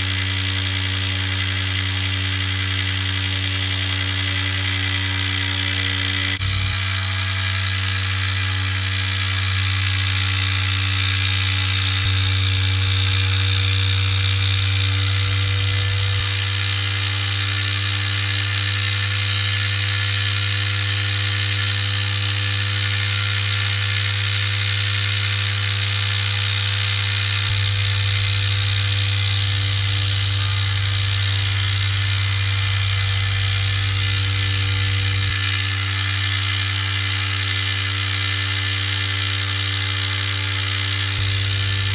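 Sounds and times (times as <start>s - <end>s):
motor whirring with low hum: 0.0s - 41.9s.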